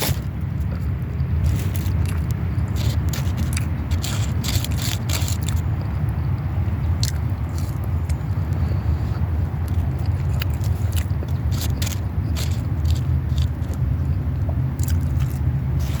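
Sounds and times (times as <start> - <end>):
chewing a burger: 0.0 - 16.0
steady low hum: 0.0 - 16.0.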